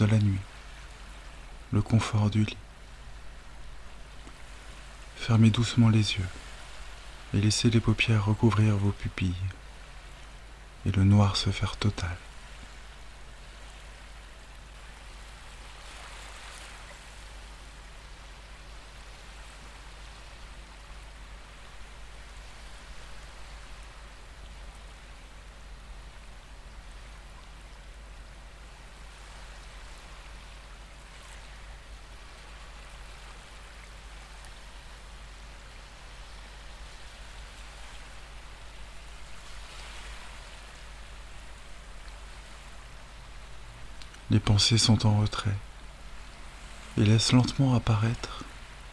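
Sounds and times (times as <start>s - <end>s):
ocean waves washing in: 0.0s - 48.9s.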